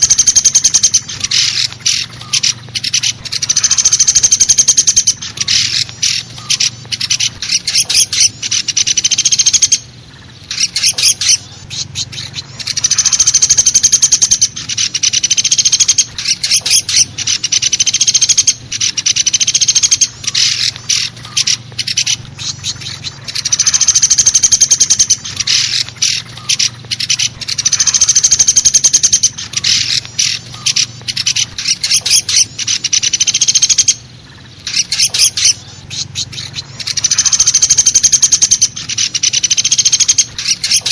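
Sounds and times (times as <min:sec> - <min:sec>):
faint low hum: 0:00.0 - 0:40.9
woodpecker call rattling: 0:00.0 - 0:40.9.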